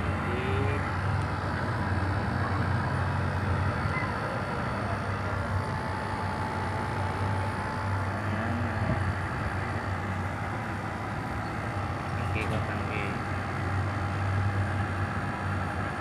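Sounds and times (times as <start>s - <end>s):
air conditioner compressor hum: 0.0s - 16.0s
fan and airflow noise: 0.0s - 16.0s.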